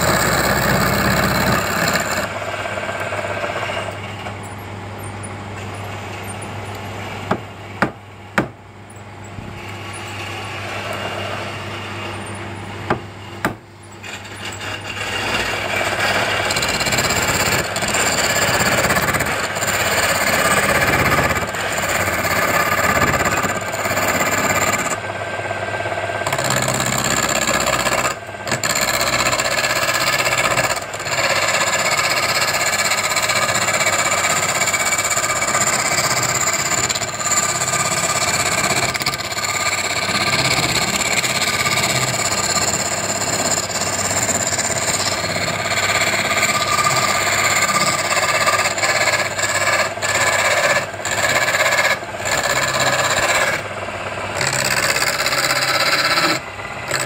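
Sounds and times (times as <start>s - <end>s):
chisel scraping spinning wood: 0.0s - 8.6s, 9.2s - 57.0s
lathe motor hum: 0.0s - 57.0s.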